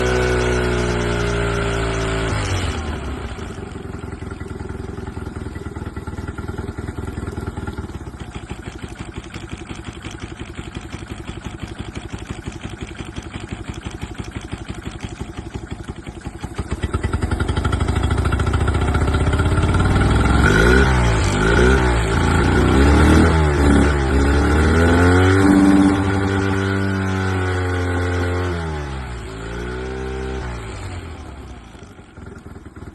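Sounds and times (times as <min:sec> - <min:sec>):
misfiring engine revving: 0:00.0 - 0:32.9.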